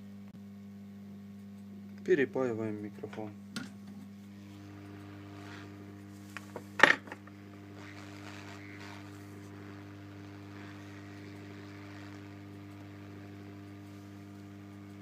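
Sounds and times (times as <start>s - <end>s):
hot-air rework station humming: 0.0s - 15.0s.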